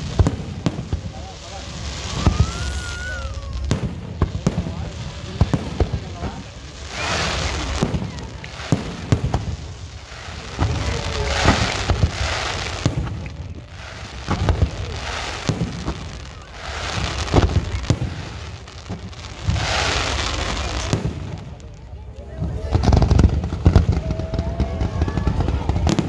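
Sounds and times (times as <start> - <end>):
fireworks bursting bangs: 0.0 - 26.0.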